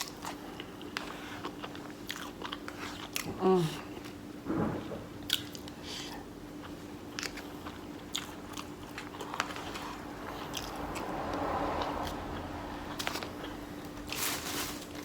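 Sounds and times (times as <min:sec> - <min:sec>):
person chewing food: 0:00.0 - 0:04.2, 0:05.2 - 0:14.2.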